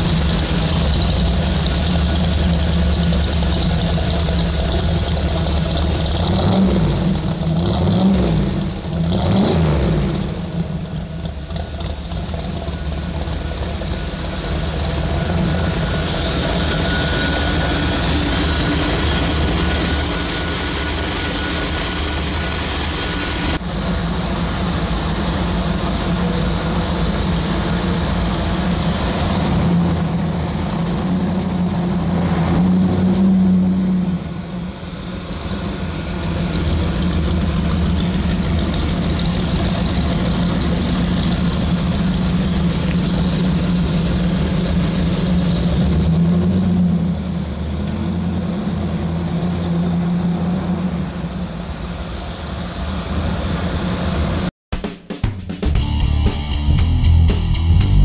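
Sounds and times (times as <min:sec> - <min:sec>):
truck engine running: 0:00.0 - 0:54.5, 0:55.7 - 0:58.0.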